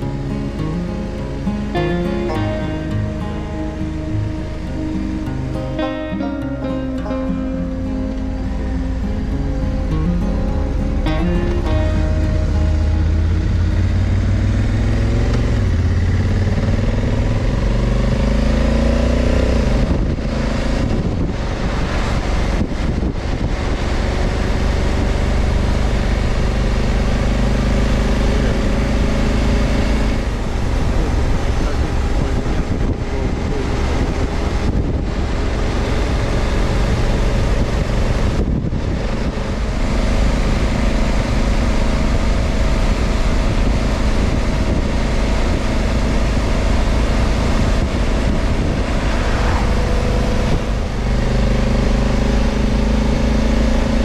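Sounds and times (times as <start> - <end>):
wind and road noise: 0.0 - 54.0
motorcycle engine running: 8.0 - 54.0.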